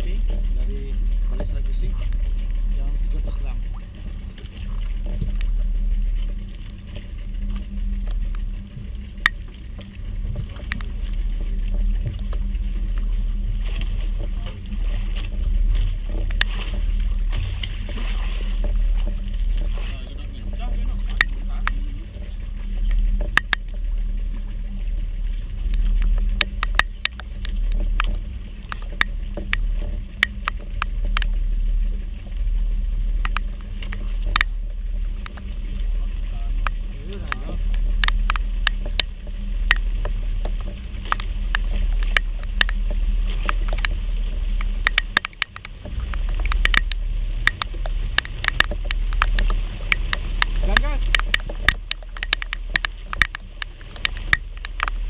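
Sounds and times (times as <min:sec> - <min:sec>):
boat engine droning: 0:00.0 - 0:55.0
sharp ticks and knocks: 0:00.0 - 0:55.0.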